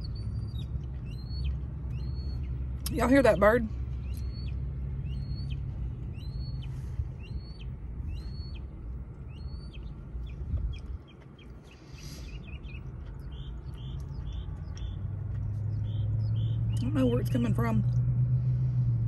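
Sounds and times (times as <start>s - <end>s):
bird calling: 0.0s - 17.6s
low rumble: 0.0s - 19.0s.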